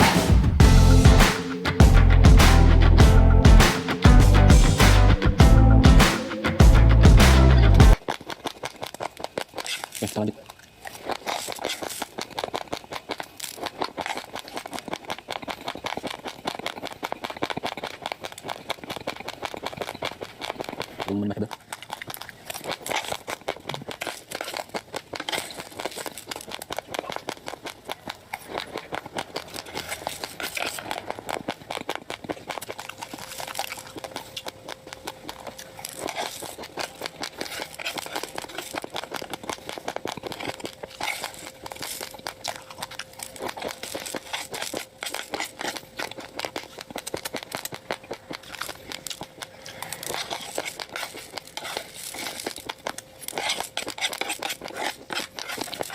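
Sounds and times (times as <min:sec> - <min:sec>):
rice grains crunching: 0:07.9 - 0:55.9.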